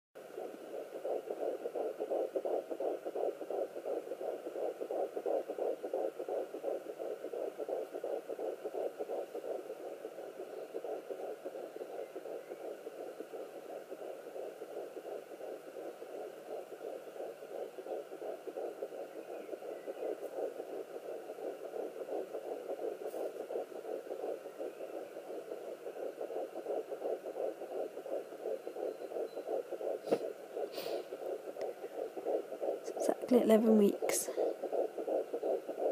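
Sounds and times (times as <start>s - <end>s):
fetal heartbeat on doppler: 0.2s - 35.9s.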